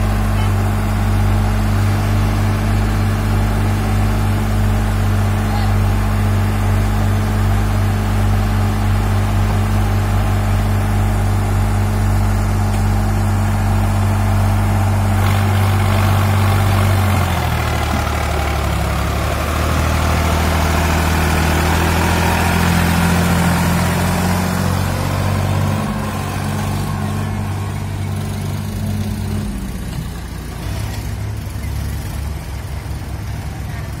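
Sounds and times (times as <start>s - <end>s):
tractor diesel engine idling and revving: 0.0s - 34.0s.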